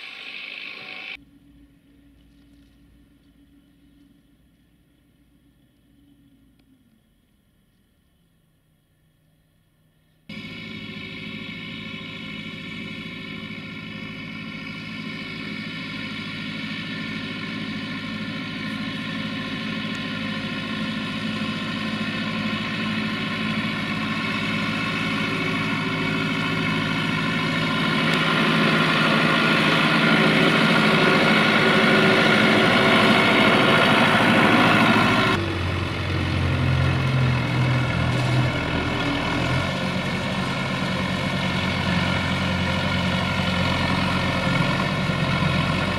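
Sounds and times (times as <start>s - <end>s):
tractor diesel engine running: 0.0s - 6.6s, 10.3s - 45.9s.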